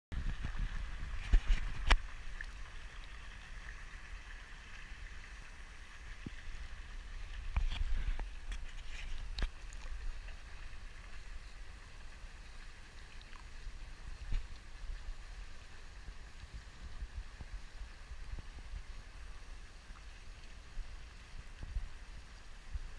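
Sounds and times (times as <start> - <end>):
water lapping and gurgling: 0.2 - 22.9.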